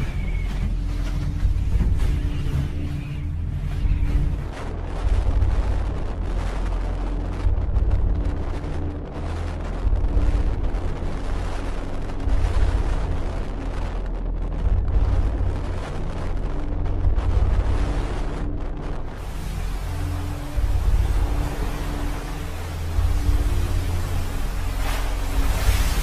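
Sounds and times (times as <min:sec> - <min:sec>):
heavy surf rumble: 0:00.0 - 0:26.0.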